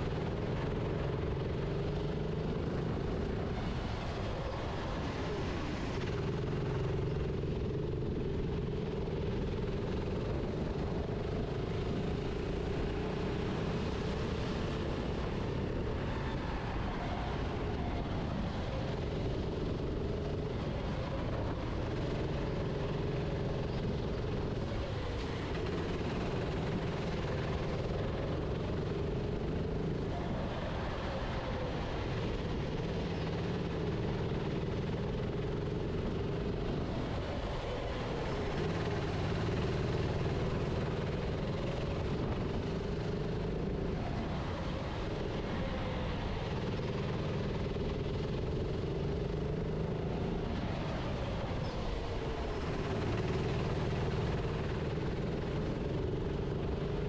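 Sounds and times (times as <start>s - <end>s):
kart engine running at speed: 0.0s - 57.0s
steady rushing noise: 0.0s - 57.0s.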